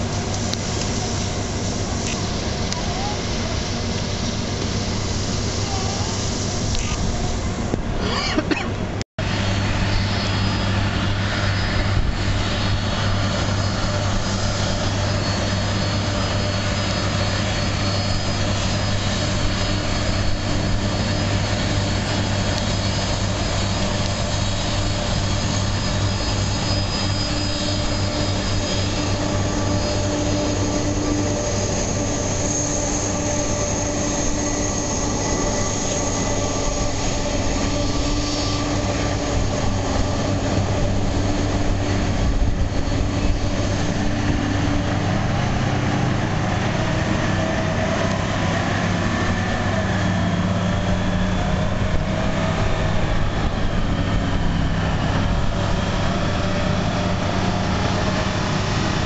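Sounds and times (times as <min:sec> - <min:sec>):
high whine: 0:00.0 - 0:59.0
jet engines running: 0:00.0 - 0:59.0.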